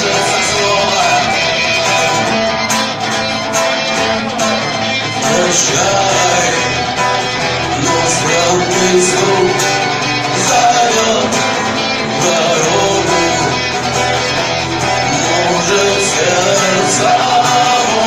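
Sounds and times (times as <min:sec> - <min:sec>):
live rock music with guitar: 0:00.0 - 0:18.0.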